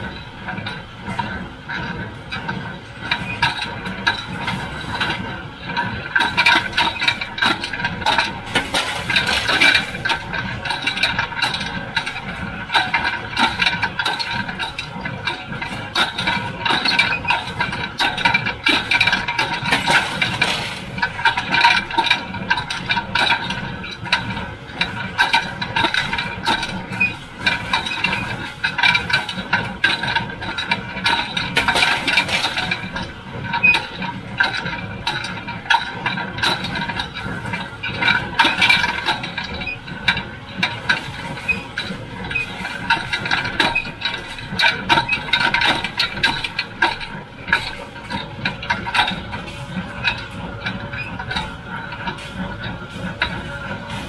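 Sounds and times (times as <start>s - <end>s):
baler machinery clattering: 0.0s - 54.0s.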